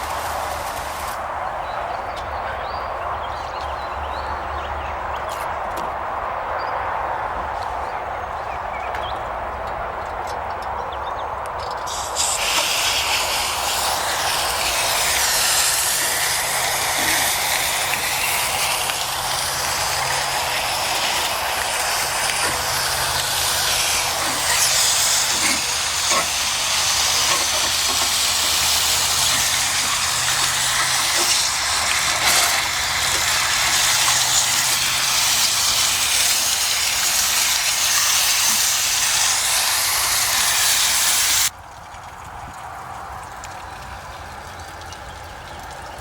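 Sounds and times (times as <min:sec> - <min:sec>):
water spraying from hose: 0:00.0 - 0:03.2, 0:11.6 - 0:46.0.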